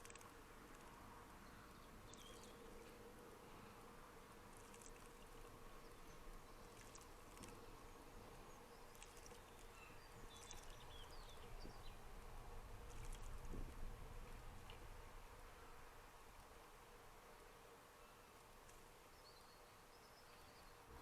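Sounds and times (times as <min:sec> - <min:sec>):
small birds chirping: 0:00.0 - 0:13.8, 0:17.9 - 0:21.0
faint steady hum: 0:00.0 - 0:21.0.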